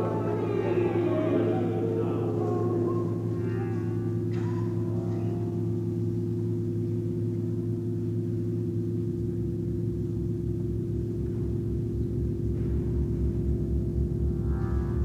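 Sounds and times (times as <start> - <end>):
electric organ chord: 0.0 - 15.0.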